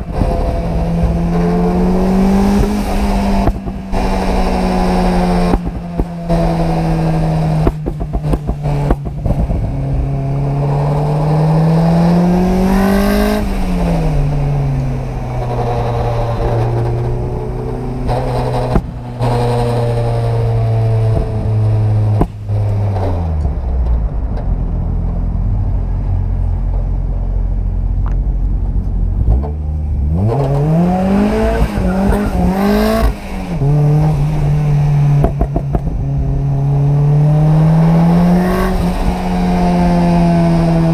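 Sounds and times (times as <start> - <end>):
car engine driving: 0.0 - 40.9.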